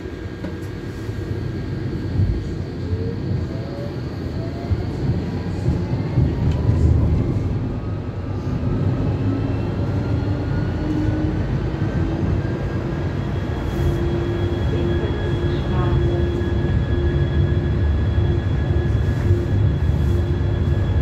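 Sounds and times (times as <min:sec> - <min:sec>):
rumble of tram wheels on rails: 0:00.0 - 0:21.0
tram motors whining: 0:00.0 - 0:21.0.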